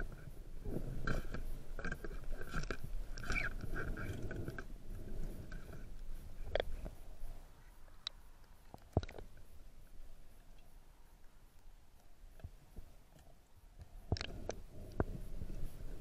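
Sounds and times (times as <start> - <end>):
underwater clicks and scraping: 0.0 - 16.0.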